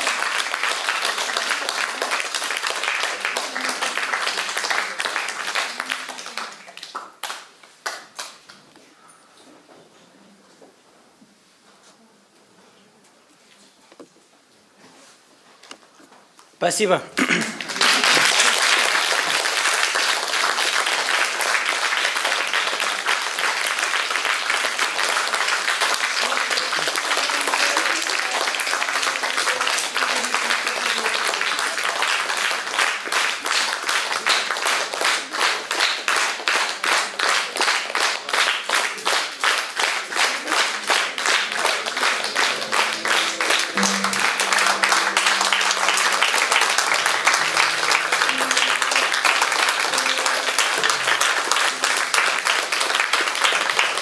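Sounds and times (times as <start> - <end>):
rhythmic clapping in unison: 0.0 - 8.4, 17.2 - 54.0
audience applauding: 0.0 - 8.5, 17.2 - 54.0.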